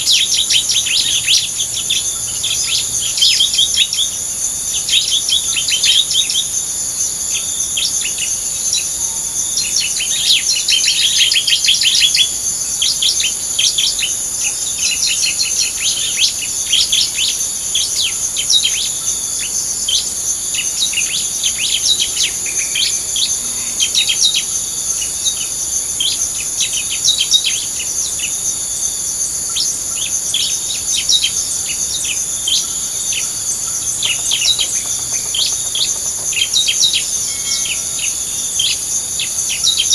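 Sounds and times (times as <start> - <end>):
small birds chirping: 0.0 - 6.6, 7.3 - 39.9
insects buzzing: 0.0 - 39.9.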